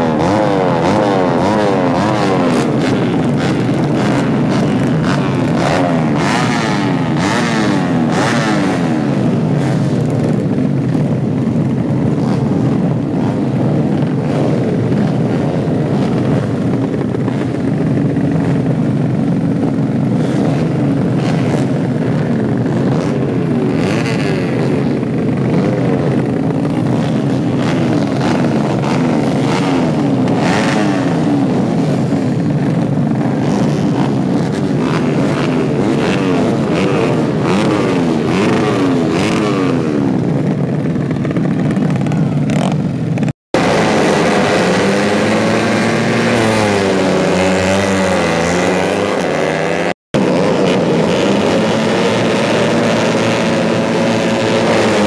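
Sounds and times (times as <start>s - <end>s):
motorcycle engines revving: 0.0s - 55.0s
nearer engine revving: 0.0s - 55.0s.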